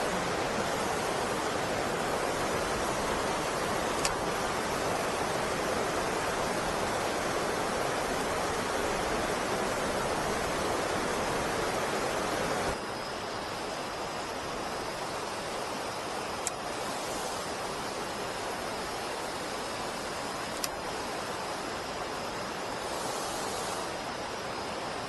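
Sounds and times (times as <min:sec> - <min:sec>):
water rushing over weir: 0:00.0 - 0:25.0.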